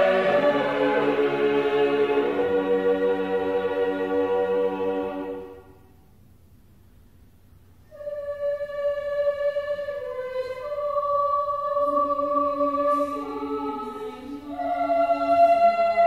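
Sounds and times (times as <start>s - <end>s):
choir singing unaccompanied: 0.0s - 5.8s, 7.9s - 16.0s.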